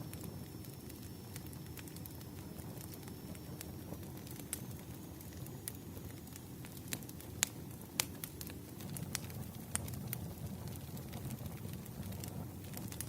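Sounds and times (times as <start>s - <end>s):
fire crackles and pops: 0.0s - 13.0s
wood fire rumble: 0.0s - 13.0s.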